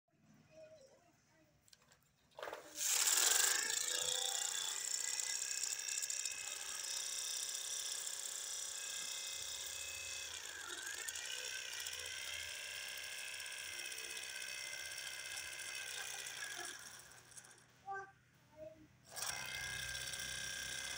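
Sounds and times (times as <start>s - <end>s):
toy tractor motor whining: 2.4s - 18.0s, 19.1s - 20.9s.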